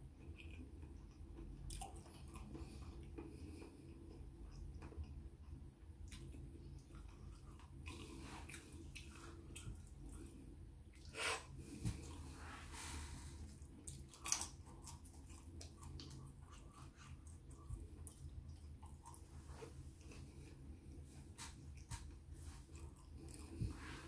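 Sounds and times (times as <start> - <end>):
close chewing of food: 0.0 - 24.0
low steady hum: 0.0 - 24.0.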